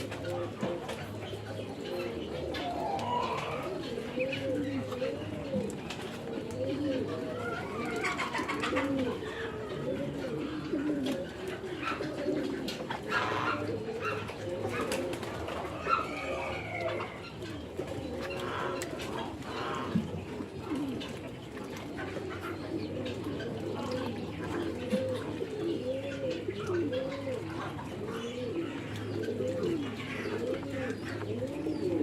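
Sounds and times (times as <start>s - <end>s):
birds cooing: 0.0s - 32.0s.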